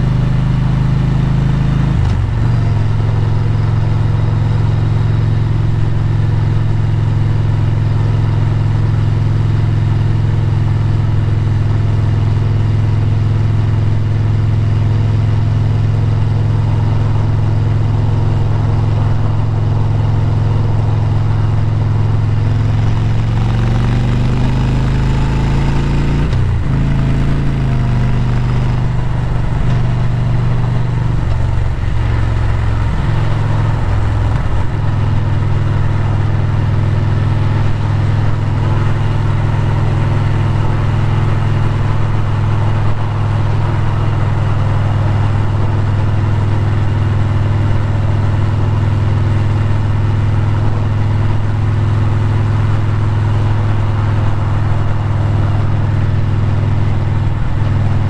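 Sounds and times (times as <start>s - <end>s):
motorcycle engine cruising: 0.0s - 58.0s
road noise: 0.0s - 58.0s.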